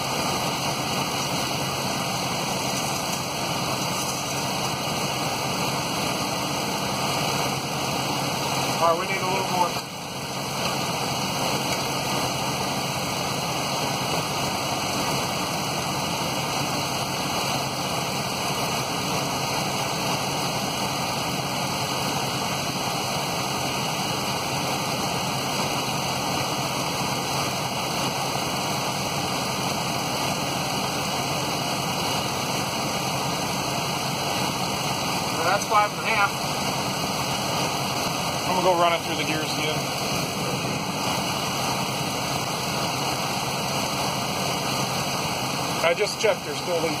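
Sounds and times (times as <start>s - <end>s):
steady rushing hiss: 0.0s - 47.0s.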